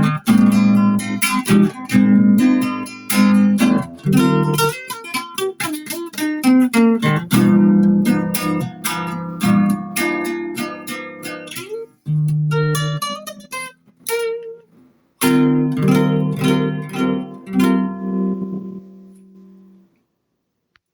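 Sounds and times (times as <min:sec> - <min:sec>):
plucked string instrument: 0:00.0 - 0:20.0.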